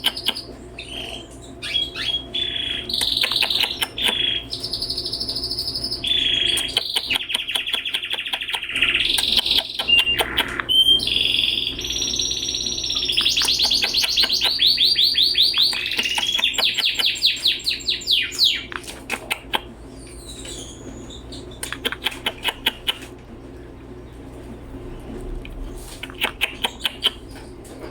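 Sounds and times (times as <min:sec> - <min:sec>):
canary trilling: 0:00.0 - 0:18.7, 0:19.3 - 0:23.1.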